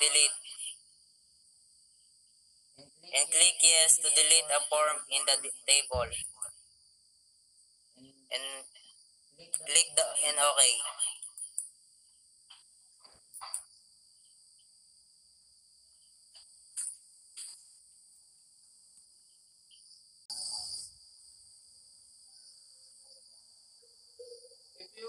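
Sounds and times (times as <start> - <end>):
insects chirring: 0.0 - 2.8, 3.4 - 25.0.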